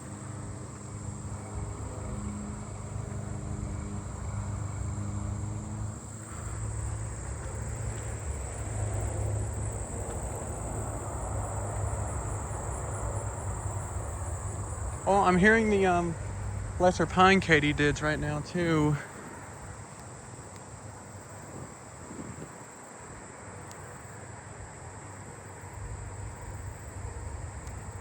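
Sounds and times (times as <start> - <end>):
low vehicle rumble: 0.0 - 22.5
katydids and crickets singing: 0.0 - 28.0.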